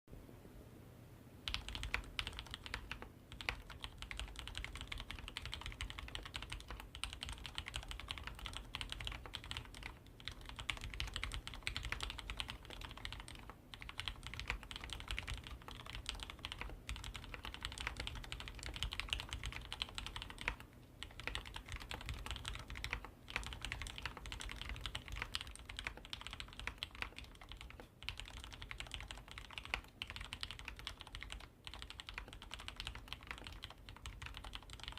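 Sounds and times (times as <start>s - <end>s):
mechanical keyboard typing: 1.5s - 34.9s.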